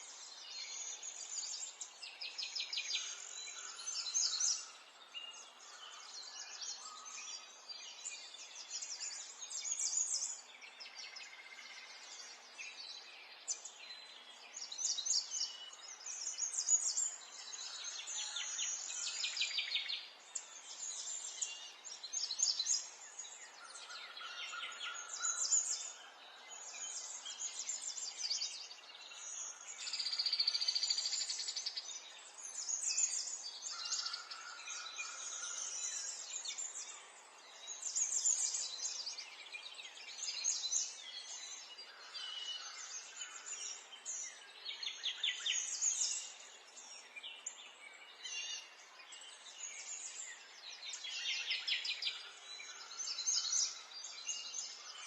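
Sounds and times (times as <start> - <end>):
faint outdoor hiss: 0.0 - 55.0
songbirds chirping and singing: 0.0 - 55.0.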